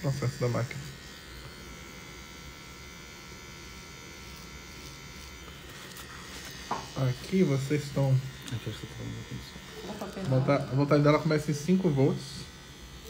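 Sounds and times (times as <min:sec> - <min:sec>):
tattoo machine buzzing: 0:00.0 - 0:13.0.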